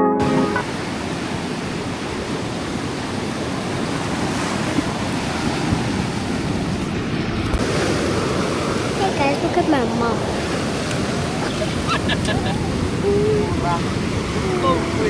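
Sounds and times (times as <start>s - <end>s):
ocean surf washing onto beach: 0.2s - 15.0s
wind on microphone: 0.6s - 15.0s.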